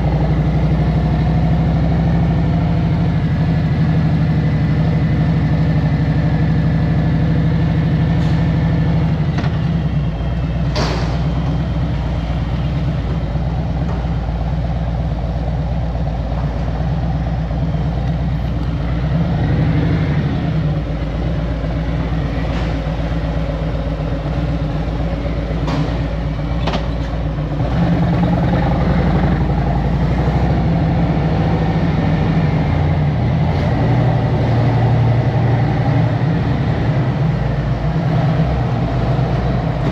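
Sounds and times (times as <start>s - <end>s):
motorcycle engine at low revs: 0.0s - 39.9s.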